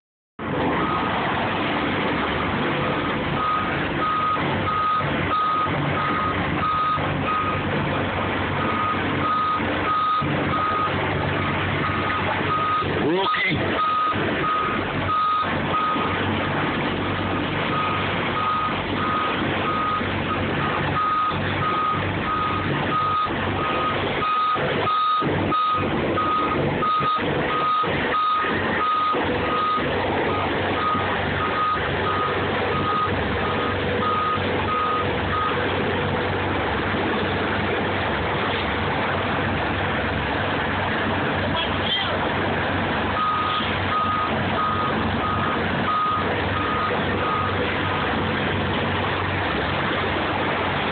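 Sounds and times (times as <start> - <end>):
truck engine running: 0.4 - 50.9
truck reversing alarm beeping: 0.6 - 1.2, 2.3 - 39.3, 41.6 - 48.5.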